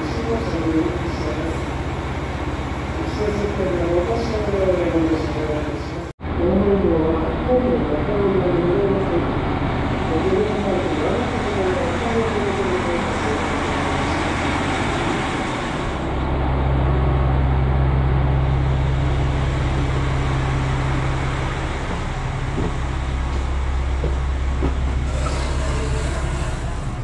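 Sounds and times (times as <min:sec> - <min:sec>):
diesel train engines idling: 0:00.0 - 0:27.0.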